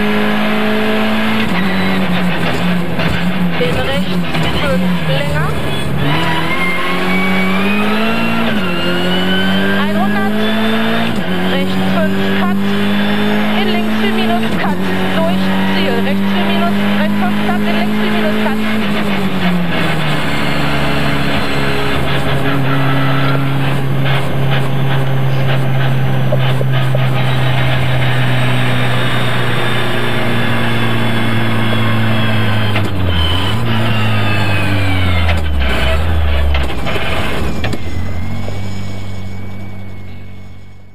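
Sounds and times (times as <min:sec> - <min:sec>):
car engine running: 0:00.0 - 0:40.9
high gear whine: 0:00.0 - 0:40.9.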